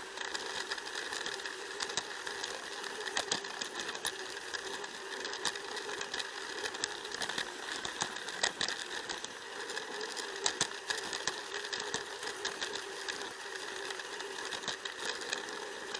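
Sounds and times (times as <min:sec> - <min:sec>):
toy train motor whirring: 0:00.0 - 0:15.9
wheels clicking on rails: 0:00.0 - 0:15.9.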